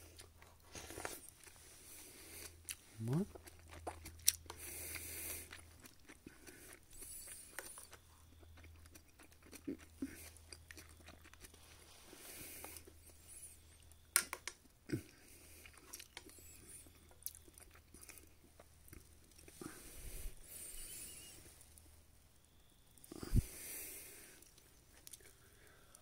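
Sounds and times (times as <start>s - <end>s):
person chewing: 0.0s - 21.9s, 22.9s - 26.0s.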